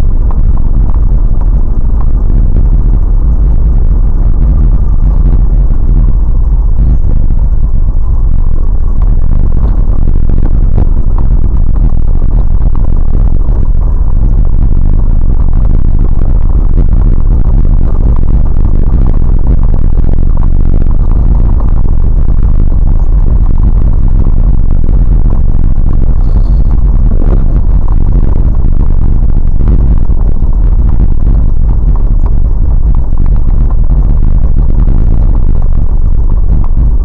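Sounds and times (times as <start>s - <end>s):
vehicle rumbling on rough track: 0.0s - 37.0s.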